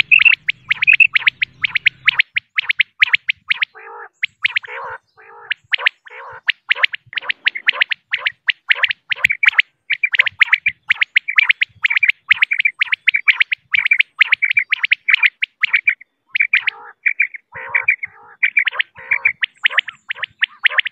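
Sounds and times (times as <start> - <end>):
lower rougher bird calls: 0.0 - 20.9
quail calling with sharp notes: 0.0 - 20.9.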